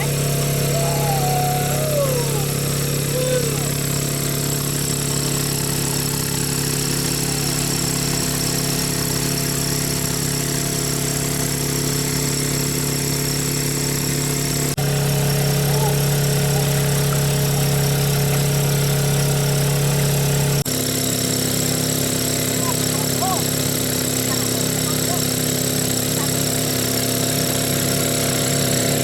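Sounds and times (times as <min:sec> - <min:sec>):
engine-driven water pump droning: 0:00.0 - 0:29.0.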